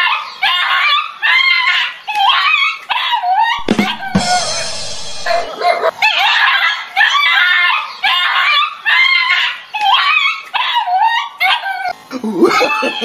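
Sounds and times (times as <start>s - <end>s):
animal high-pitched calls: 0.0s - 11.9s.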